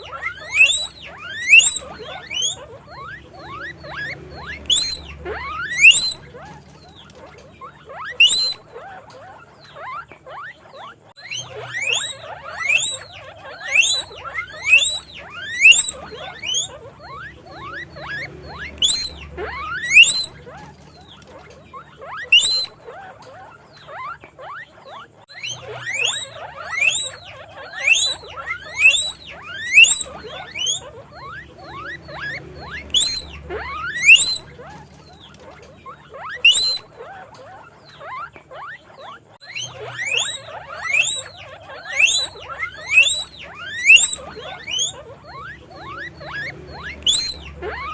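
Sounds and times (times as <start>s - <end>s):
guinea pig wheeking: 0.0s - 47.9s.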